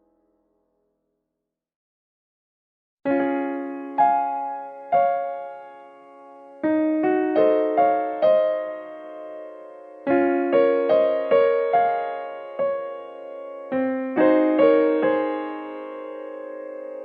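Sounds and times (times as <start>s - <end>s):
gentle piano music: 3.1s - 17.0s.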